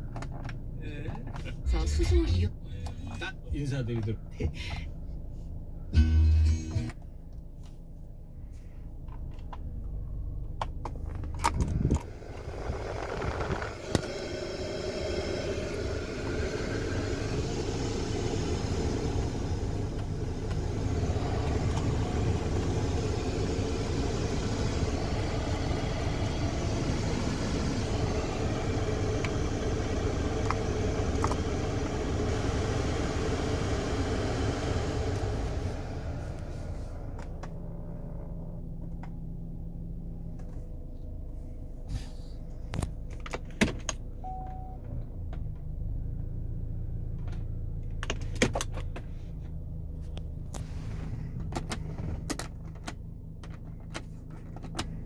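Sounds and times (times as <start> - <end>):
car blower fan running: 0.0 - 55.0.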